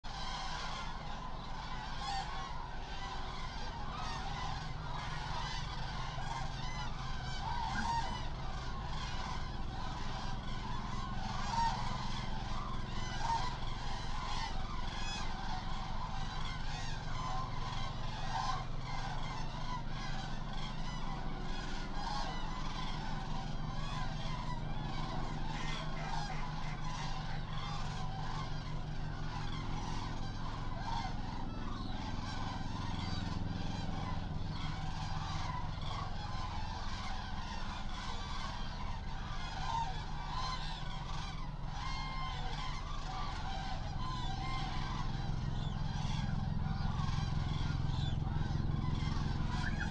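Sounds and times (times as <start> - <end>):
flock of cranes calling: 0.0 - 49.9
low steady hum: 0.1 - 49.9.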